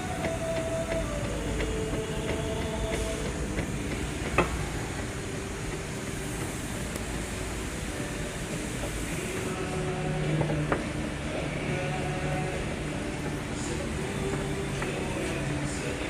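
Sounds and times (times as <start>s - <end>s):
steering whine: 0.0s - 16.0s.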